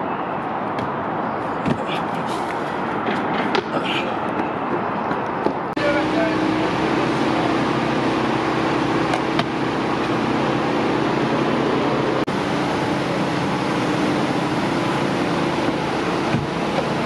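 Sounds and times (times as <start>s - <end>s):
city traffic roar: 0.0s - 17.0s.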